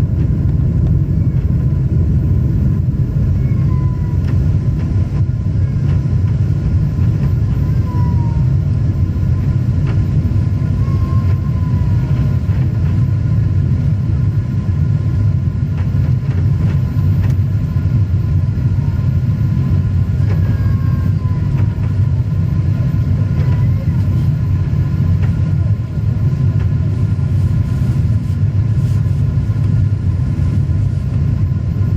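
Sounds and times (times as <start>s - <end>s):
jet airliner cabin rumble: 0.0s - 31.9s.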